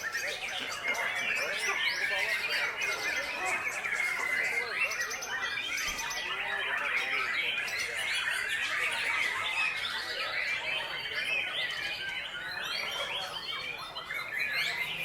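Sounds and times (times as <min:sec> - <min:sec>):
songbirds singing in chorus: 0:00.0 - 0:15.0.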